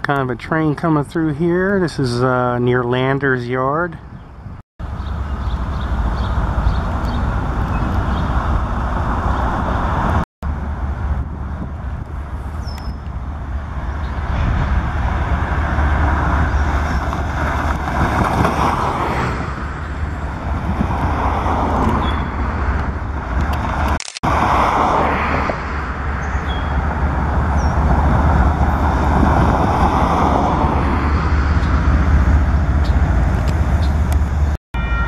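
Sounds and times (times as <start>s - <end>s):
diesel locomotives rumbling: 0.0s - 35.0s.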